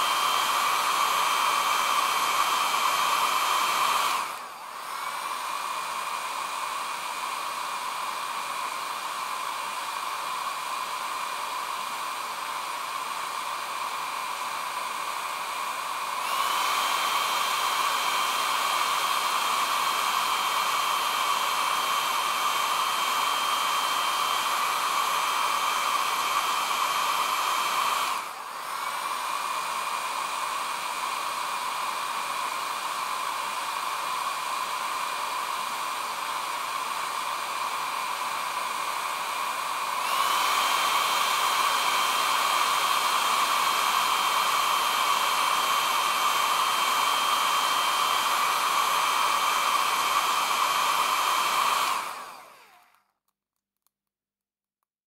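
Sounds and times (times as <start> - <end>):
hair dryer blowing with whine: 0.0 - 53.1.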